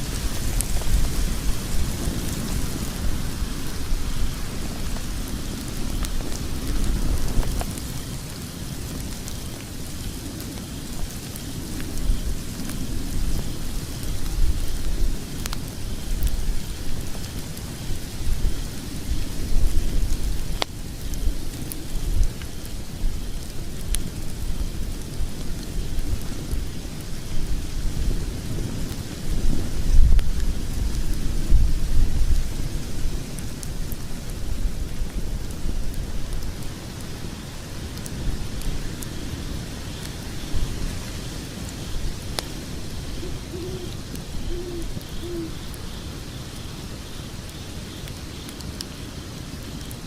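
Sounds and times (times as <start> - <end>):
logs crackling and popping: 0.0 - 50.0
low rumble of flames: 0.0 - 50.0.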